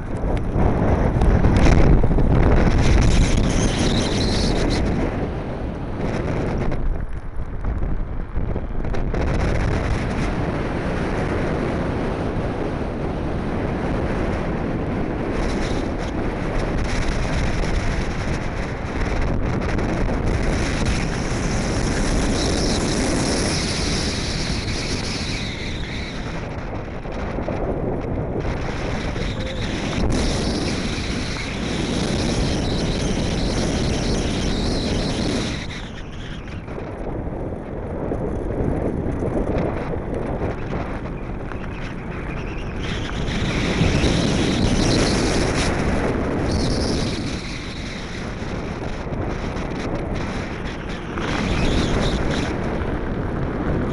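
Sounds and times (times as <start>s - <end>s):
wheels rumbling on hard ground: 0.0s - 53.9s
wind rushing over microphone: 0.0s - 53.9s.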